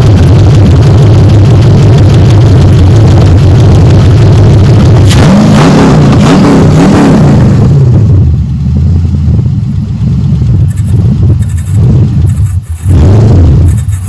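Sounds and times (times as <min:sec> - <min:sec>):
engine idling: 0:00.0 - 0:14.0
engine revving: 0:00.0 - 0:14.0.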